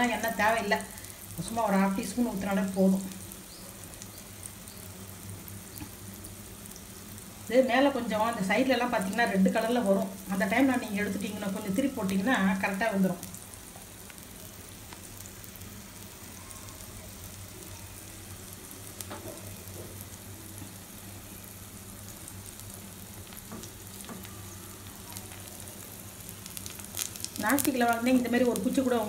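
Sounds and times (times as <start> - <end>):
food frying in oil: 0.0 - 29.0.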